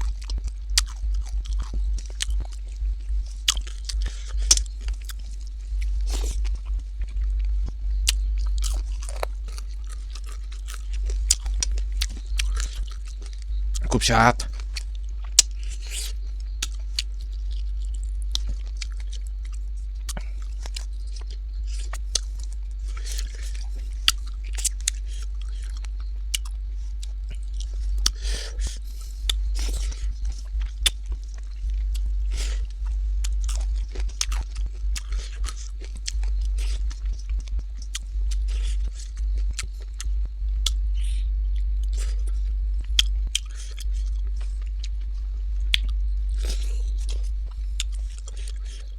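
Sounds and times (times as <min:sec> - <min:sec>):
low hum: 0:00.0 - 0:48.9
person chewing food: 0:00.0 - 0:48.9.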